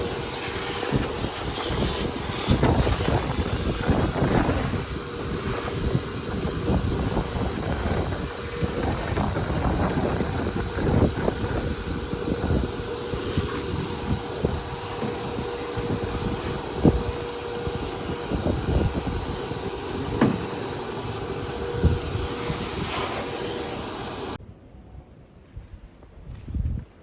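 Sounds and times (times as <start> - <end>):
machine hum with high whine: 0.0 - 25.3.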